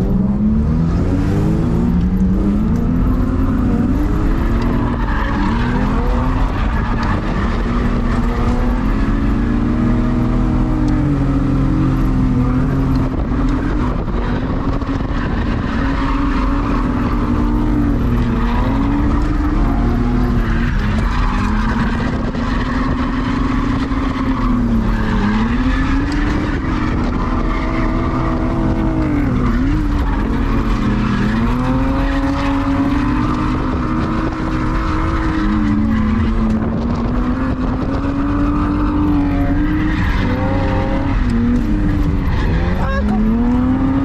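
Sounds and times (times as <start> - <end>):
car engine revving: 0.0 - 44.0
tyre and wind noise: 0.0 - 44.0.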